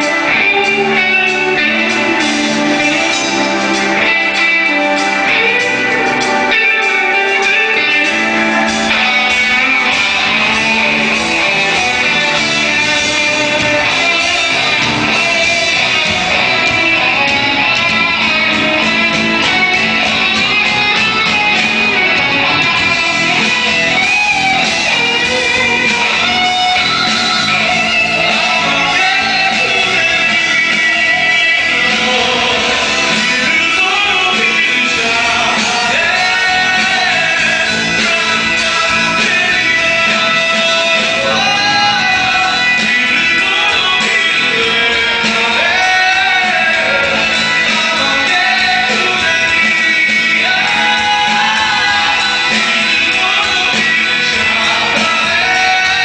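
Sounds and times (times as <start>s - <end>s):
electric guitar: 0.0s - 56.0s
person singing: 0.0s - 56.0s
rock band playing live: 0.0s - 56.0s.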